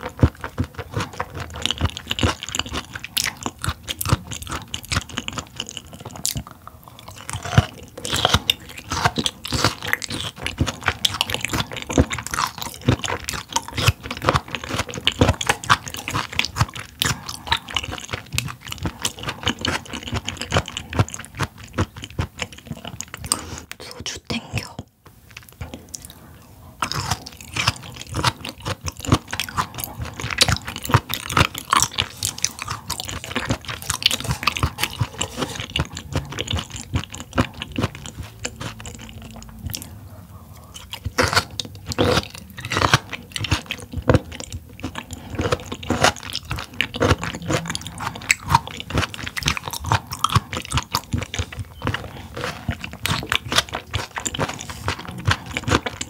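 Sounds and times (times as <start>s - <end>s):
close chewing clicks: 0.0s - 56.0s.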